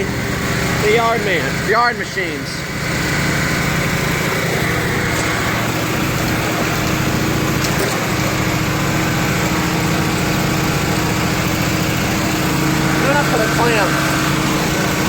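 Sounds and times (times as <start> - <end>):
small gasoline engines idling: 0.0 - 15.0.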